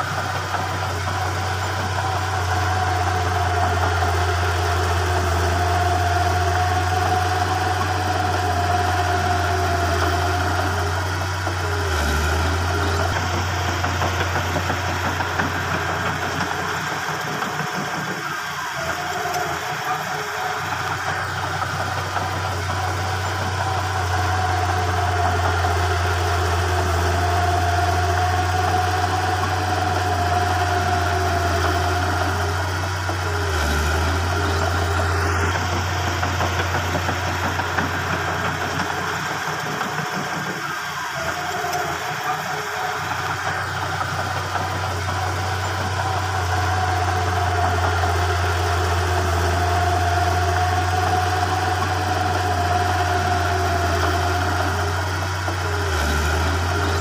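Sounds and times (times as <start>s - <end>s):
diesel engines droning: 0.0s - 57.0s
thin steady whine: 0.0s - 57.0s.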